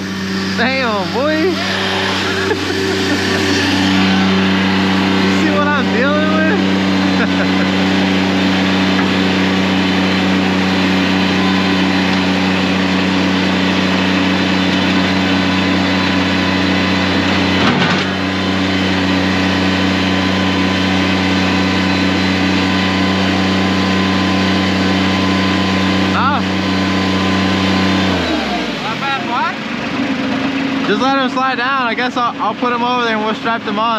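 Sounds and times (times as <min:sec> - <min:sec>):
construction equipment engine running: 0:00.0 - 0:33.9.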